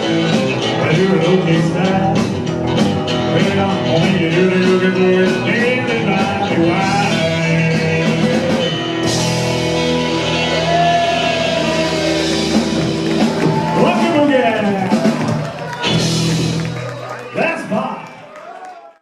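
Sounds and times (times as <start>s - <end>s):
rock and roll band playing: 0.0s - 18.7s.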